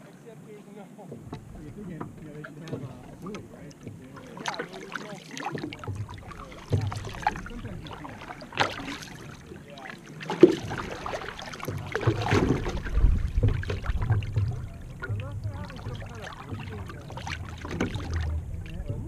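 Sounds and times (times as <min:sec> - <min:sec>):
paddle strokes splashing: 0:00.0 - 0:19.0
water washing along hull: 0:00.0 - 0:19.0
low rumbling: 0:01.2 - 0:04.9, 0:05.5 - 0:19.0.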